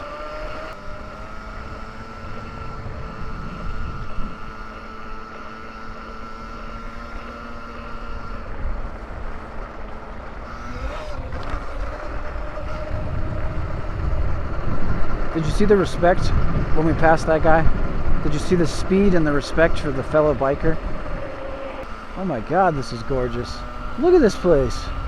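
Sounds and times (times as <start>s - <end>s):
electric motor whine: 0.0s - 25.0s
low wind: 0.0s - 25.0s.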